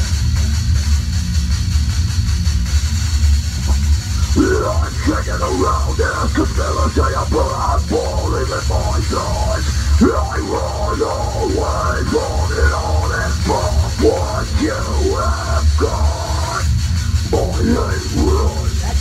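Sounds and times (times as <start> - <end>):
heavy low bass: 0.0 - 19.0
heavy rock instrumental: 3.5 - 19.0.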